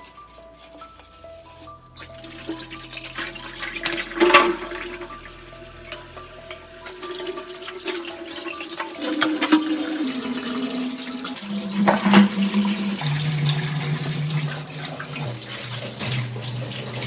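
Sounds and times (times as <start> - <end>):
tap water running into sink: 1.9 - 17.0.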